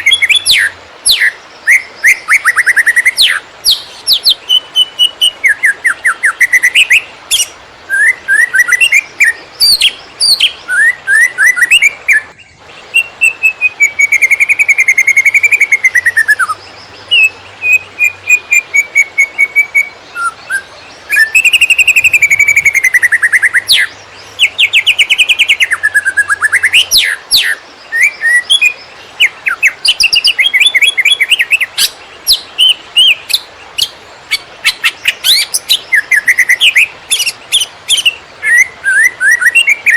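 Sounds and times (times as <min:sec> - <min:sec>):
bird singing rapid chirps and trills: 0:00.0 - 0:39.9.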